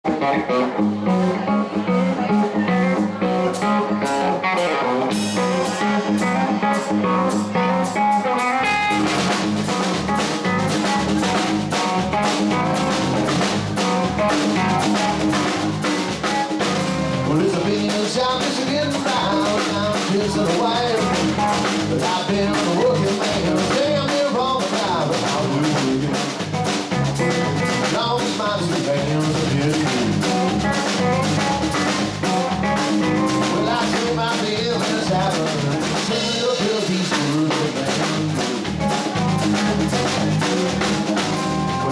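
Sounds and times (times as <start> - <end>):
bass guitar: 0.0 - 41.9
electric guitar: 0.0 - 41.9
drum kit: 0.1 - 41.9.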